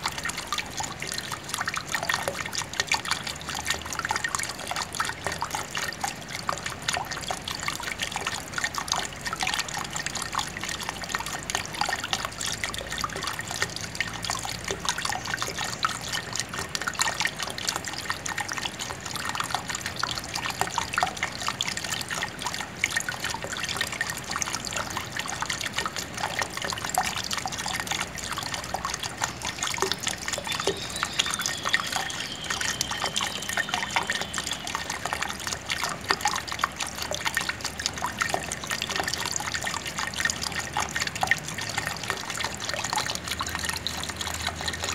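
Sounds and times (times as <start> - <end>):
water trickling and splashing: 0.0 - 44.9.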